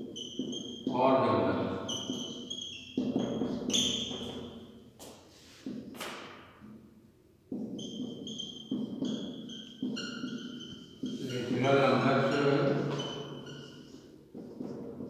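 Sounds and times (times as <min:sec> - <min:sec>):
marker squeaking on whiteboard: 0:00.0 - 0:06.7, 0:07.5 - 0:15.0.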